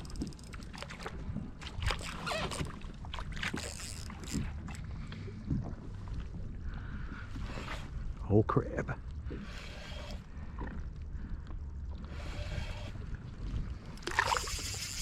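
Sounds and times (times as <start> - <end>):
water lapping against kayak hull: 0.0 - 8.3, 9.0 - 15.0.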